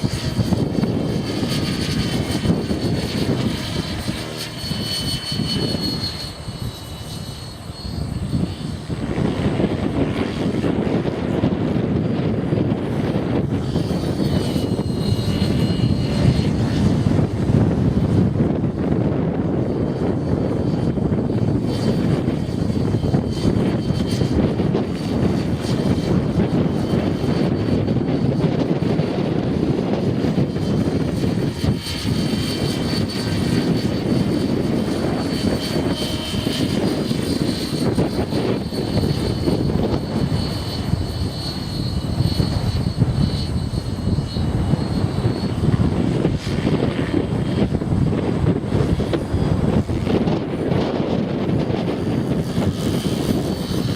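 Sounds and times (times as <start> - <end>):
helicopter rotor whine: 0.0 - 53.9
wind buffeting microphone: 0.0 - 53.9.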